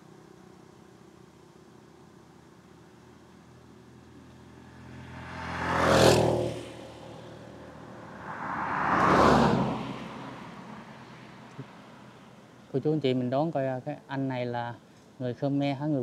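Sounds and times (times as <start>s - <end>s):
vehicles passing by: 2.6s - 16.0s.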